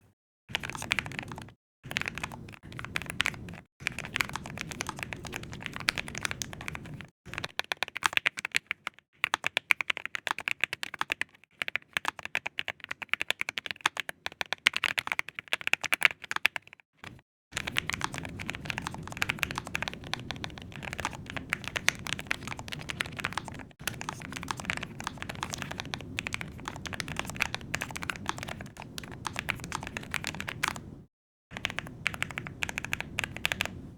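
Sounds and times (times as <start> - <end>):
mechanical keyboard typing: 0.5 - 33.9.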